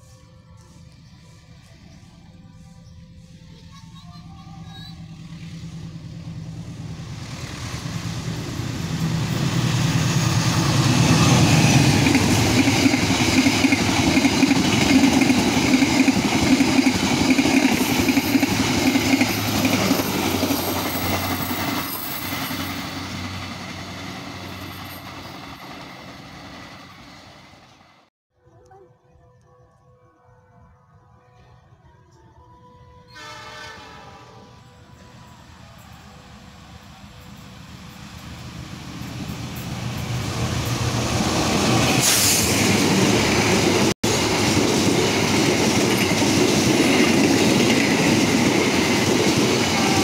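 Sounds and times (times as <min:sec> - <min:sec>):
train wheels on rails: 0:00.0 - 0:28.0, 0:35.1 - 0:50.0.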